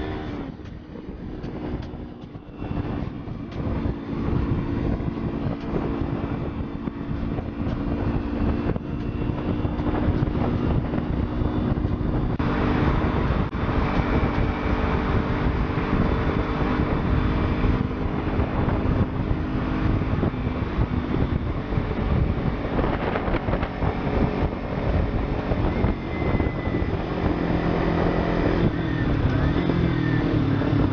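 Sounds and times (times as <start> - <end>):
motorcycle engine running: 0.0 - 30.9
wind rush on microphone: 0.0 - 30.9.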